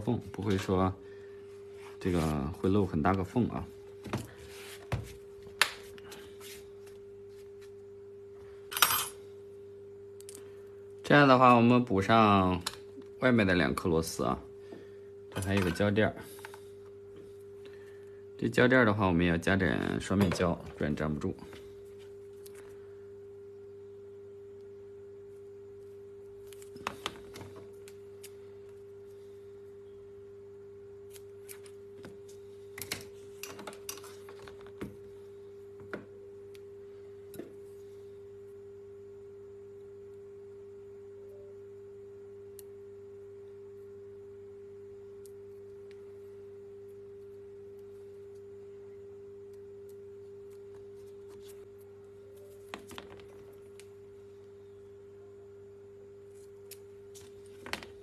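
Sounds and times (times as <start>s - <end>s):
faint electrical tone: 0.0s - 58.0s.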